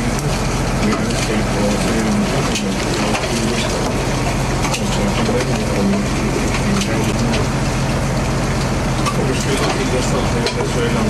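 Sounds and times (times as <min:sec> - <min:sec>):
boat engine humming: 0:00.0 - 0:11.0
deck machinery noise: 0:00.0 - 0:11.0
wash of water: 0:00.0 - 0:11.0.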